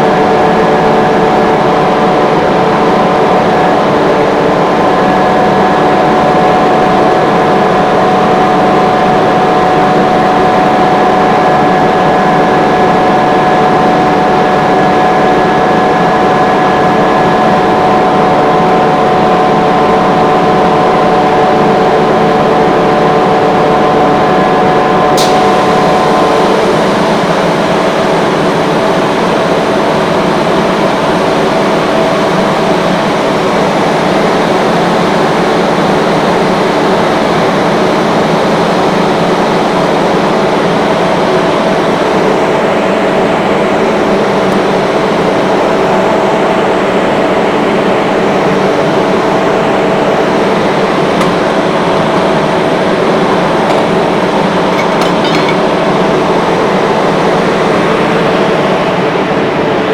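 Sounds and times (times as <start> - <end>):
air compressor running: 0.0 - 59.9.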